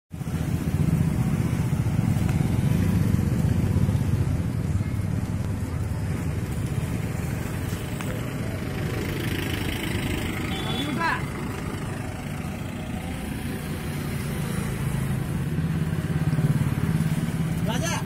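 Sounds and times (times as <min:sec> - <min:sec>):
engine running: 0:00.2 - 0:17.6.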